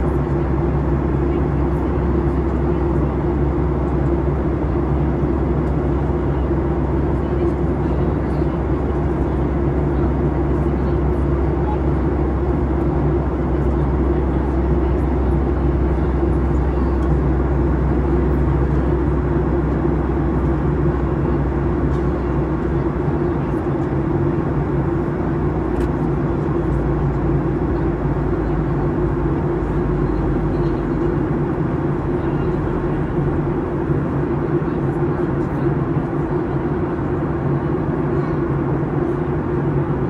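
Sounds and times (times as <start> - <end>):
airliner cabin rumble and hum: 0.0 - 40.0.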